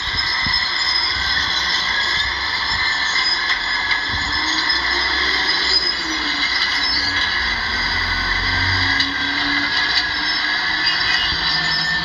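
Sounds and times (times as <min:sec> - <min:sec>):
steel tracks squealing and clattering: 0:00.0 - 0:12.0.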